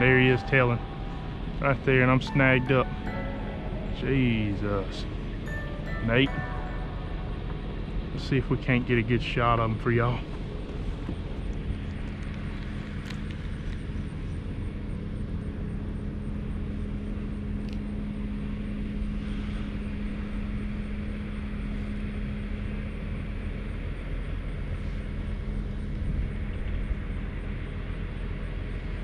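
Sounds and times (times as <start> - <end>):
low mechanical rumble with hum: 0.0 - 29.0.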